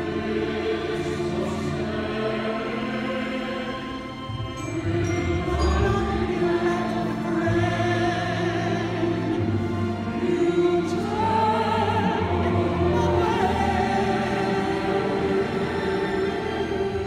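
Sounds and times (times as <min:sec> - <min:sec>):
operatic soprano singing: 0:00.0 - 0:17.0
string orchestra: 0:00.0 - 0:17.0.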